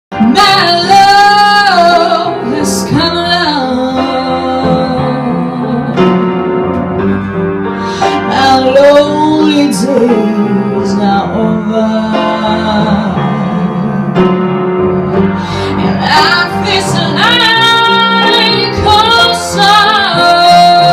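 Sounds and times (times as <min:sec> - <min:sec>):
woman singing with vibrato: 0:00.1 - 0:06.2, 0:08.0 - 0:14.3, 0:15.5 - 0:20.9
keyboard accompaniment: 0:00.1 - 0:20.9.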